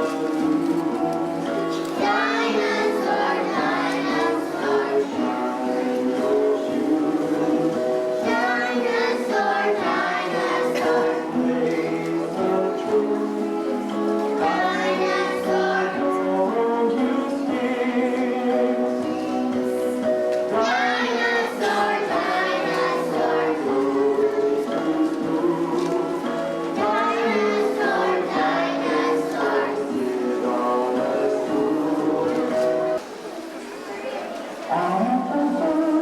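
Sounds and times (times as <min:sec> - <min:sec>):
people singing: 0:00.0 - 0:33.0
musical accompaniment: 0:00.0 - 0:33.3.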